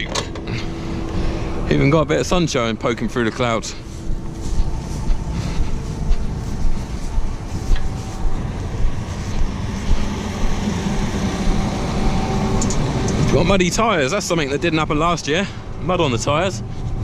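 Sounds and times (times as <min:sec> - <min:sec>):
combine harvester engine idling: 0:00.0 - 0:17.0
faint steady hum: 0:00.0 - 0:17.0.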